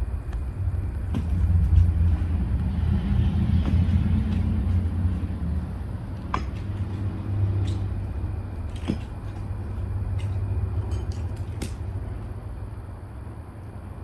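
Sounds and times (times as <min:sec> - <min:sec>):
low vehicle rumble: 0:00.0 - 0:14.0.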